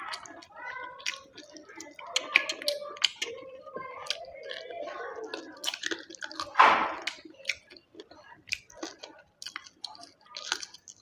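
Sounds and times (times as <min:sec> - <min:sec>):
chewing and mouth smacking: 0:00.0 - 0:11.0.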